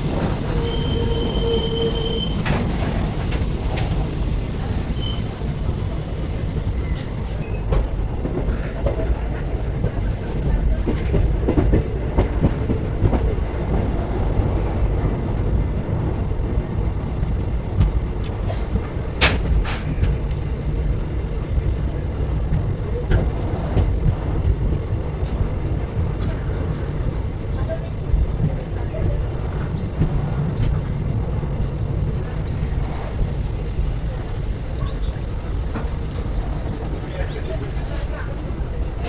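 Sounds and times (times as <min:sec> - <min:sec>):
train coach rumbling: 0:00.0 - 0:39.0.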